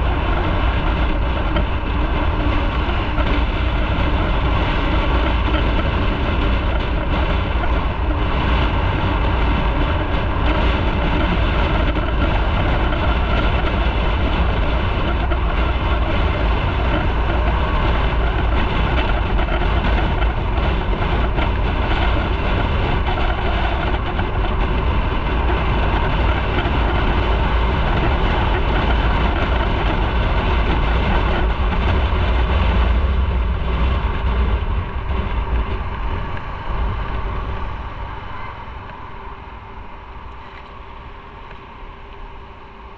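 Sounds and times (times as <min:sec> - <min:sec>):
low wind buffeting: 0:00.0 - 0:42.9
motorcycle engine and road rumble: 0:00.0 - 0:42.9.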